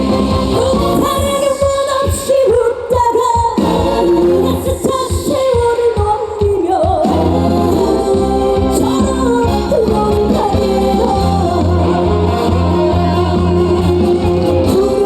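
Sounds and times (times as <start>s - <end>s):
band accompaniment: 0.0s - 15.0s
woman singing with vibrato: 0.0s - 15.0s.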